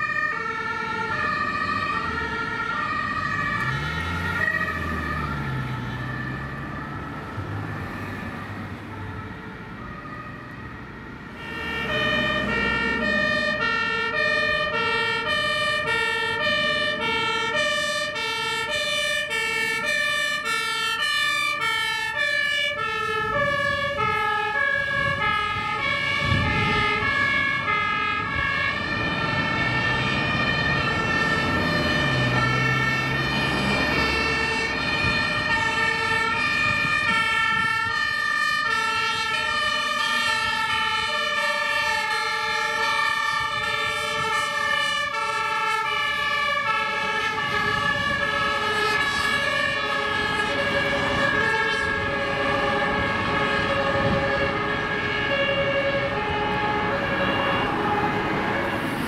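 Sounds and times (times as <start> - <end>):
two-tone emergency sirens: 0.0 - 59.0.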